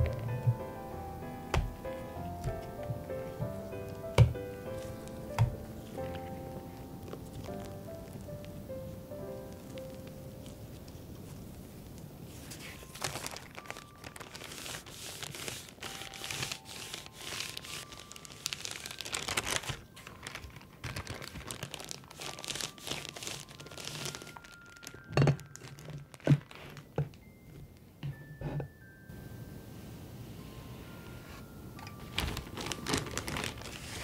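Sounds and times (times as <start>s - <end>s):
parchment paper crinkling: 1.5s - 27.2s, 32.0s - 34.0s.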